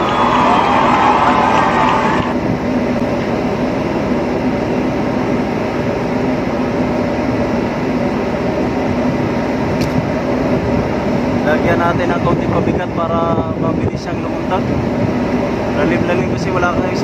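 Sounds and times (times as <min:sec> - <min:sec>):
ship engines droning: 0:00.0 - 0:17.0.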